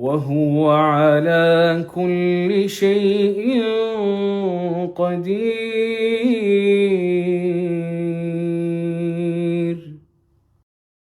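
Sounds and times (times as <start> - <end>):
man chanting: 0.0 - 10.0.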